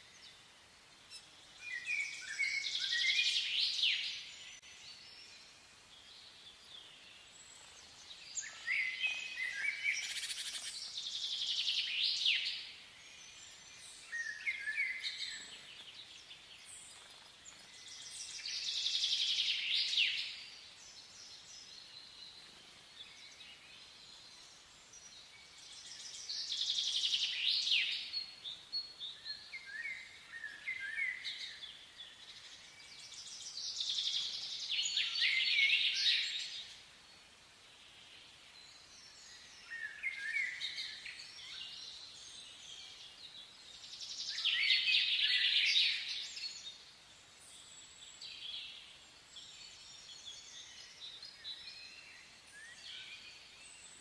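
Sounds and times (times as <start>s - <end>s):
faint outdoor hiss: 0.0s - 54.0s
songbirds singing: 0.0s - 54.0s.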